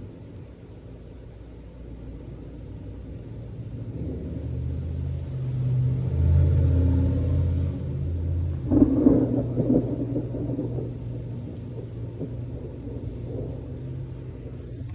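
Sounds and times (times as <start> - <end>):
thunder rumbling: 2.6 - 14.9.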